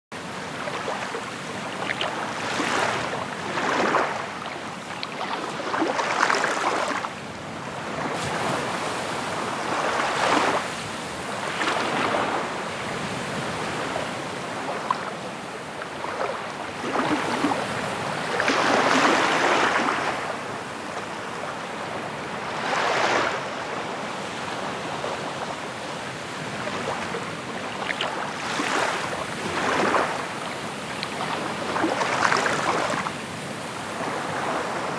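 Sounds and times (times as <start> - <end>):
waves washing on shore: 0.2 - 34.9.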